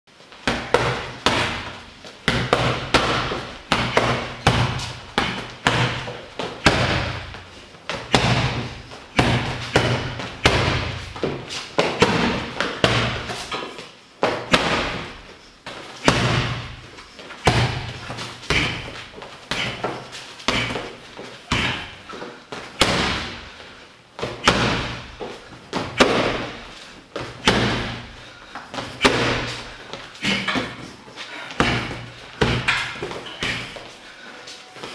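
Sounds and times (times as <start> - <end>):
punches thudding on heavy bag: 0.4 - 7.4, 8.0 - 13.6, 14.2 - 15.2, 16.0 - 16.8, 17.4 - 22.0, 22.6 - 23.4, 24.2 - 30.9, 31.5 - 33.8.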